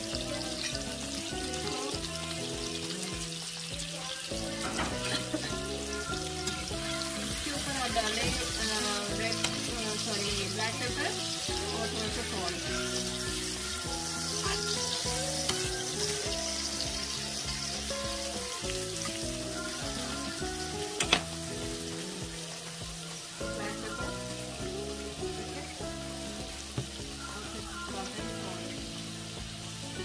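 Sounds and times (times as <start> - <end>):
background music: 0.0 - 30.0
food sizzling in hot oil: 0.0 - 30.0.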